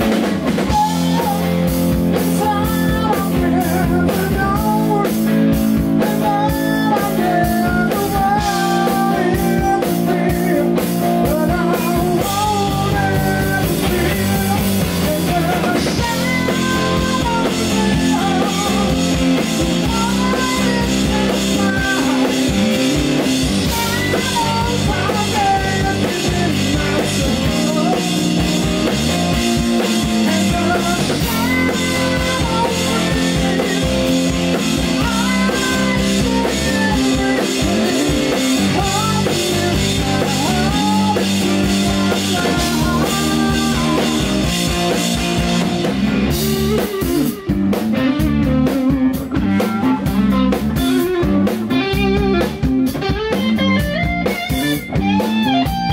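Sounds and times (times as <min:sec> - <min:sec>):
choppy electric guitar: 0:00.0 - 0:55.9
live rock band playing: 0:00.0 - 0:55.9
melodic lead line: 0:00.0 - 0:55.9.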